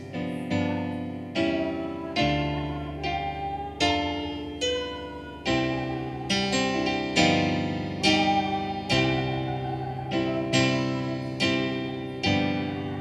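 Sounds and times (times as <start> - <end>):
electronic keyboard piano chords: 0.0 - 13.0.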